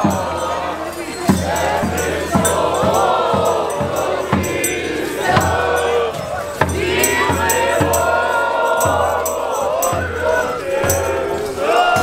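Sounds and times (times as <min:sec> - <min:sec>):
drum beating: 0:00.0 - 0:12.0
group singing a carol: 0:00.0 - 0:12.0
jingles: 0:00.0 - 0:12.0.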